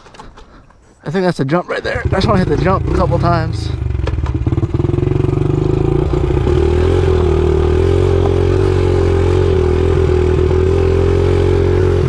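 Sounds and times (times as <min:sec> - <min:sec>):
dirt bike engine running: 0:01.9 - 0:12.0.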